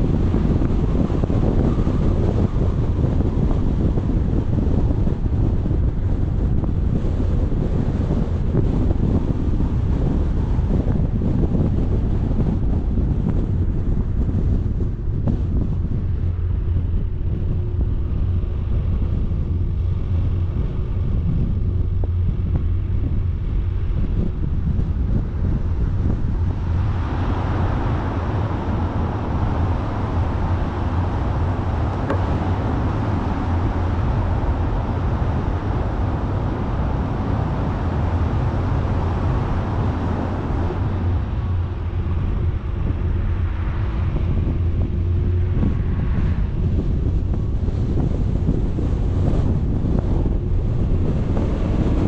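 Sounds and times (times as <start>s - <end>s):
vehicle driving rumble: 0.0s - 52.0s
wind on microphone: 0.0s - 52.0s.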